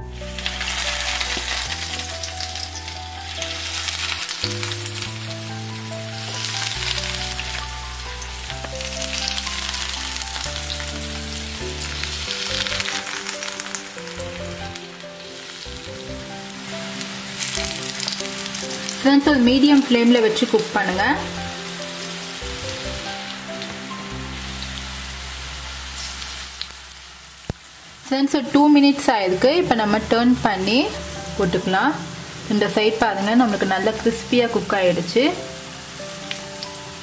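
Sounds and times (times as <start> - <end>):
hot oil sizzling: 0.0 - 37.0
instrumental background music: 0.0 - 37.0.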